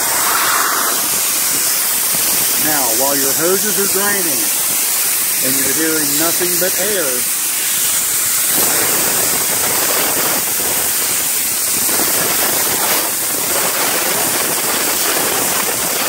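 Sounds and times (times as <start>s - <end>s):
compressed air hissing from hose: 0.0s - 15.4s.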